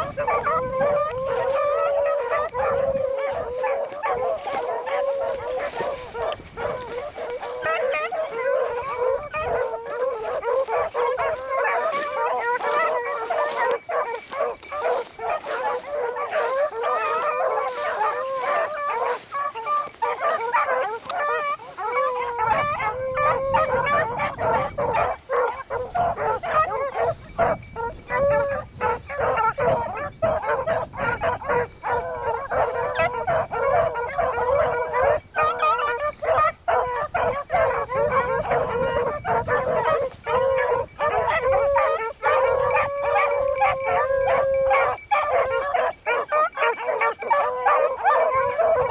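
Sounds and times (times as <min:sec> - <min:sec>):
beagles baying: 0:00.0 - 0:48.9.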